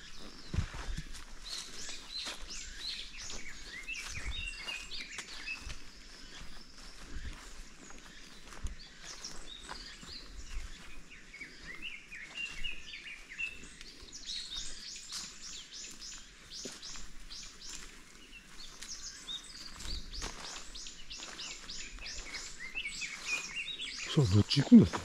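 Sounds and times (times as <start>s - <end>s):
small birds singing: 0.0s - 25.0s.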